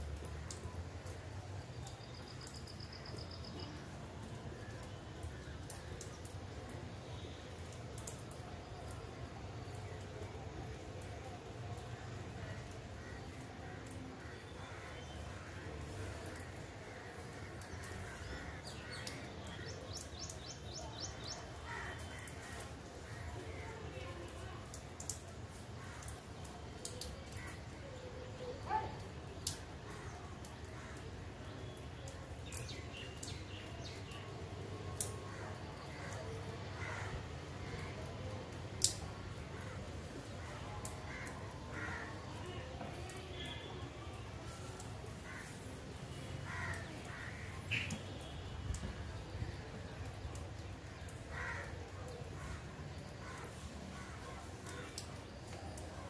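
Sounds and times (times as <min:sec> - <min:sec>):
rain hissing: 0:00.0 - 0:28.4, 0:29.0 - 0:56.0
wind: 0:00.0 - 0:56.0.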